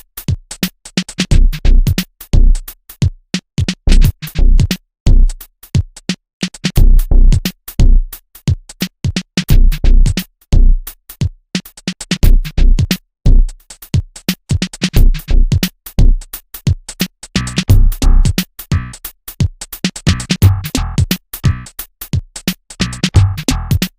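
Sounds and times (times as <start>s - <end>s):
electronic music with drum-machine beat: 0.0s - 23.9s.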